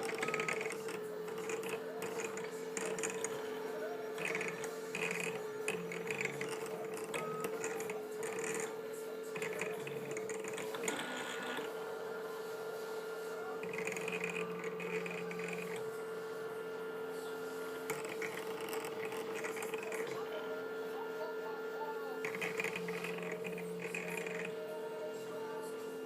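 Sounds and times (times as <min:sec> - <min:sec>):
steady hum: 0:00.0 - 0:26.0
stepper motors whining: 0:00.0 - 0:26.0.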